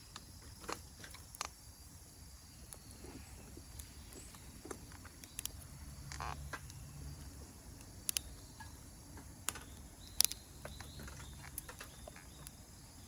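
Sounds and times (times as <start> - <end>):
campfire crackling: 0.0 - 13.0
sharp pops from fire: 0.1 - 1.7, 3.6 - 12.7.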